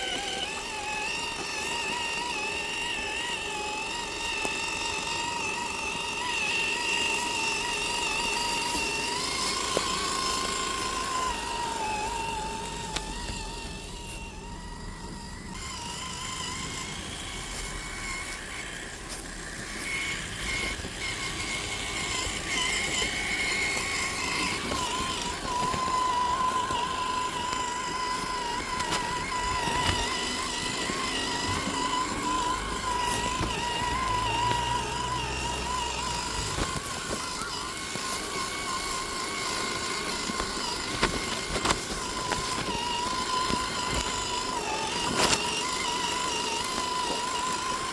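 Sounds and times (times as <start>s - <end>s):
electric motor and gears whining: 0.0s - 47.9s.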